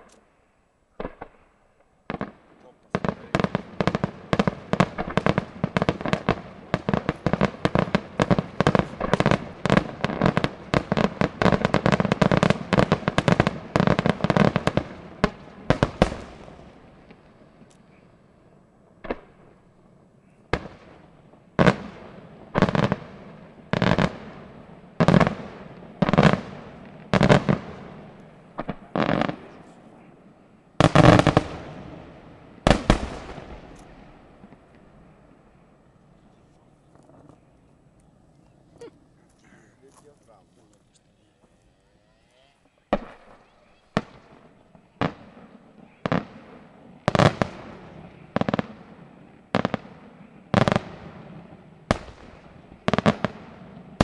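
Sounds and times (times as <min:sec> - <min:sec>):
fireworks bursting: 0:00.9 - 0:54.0.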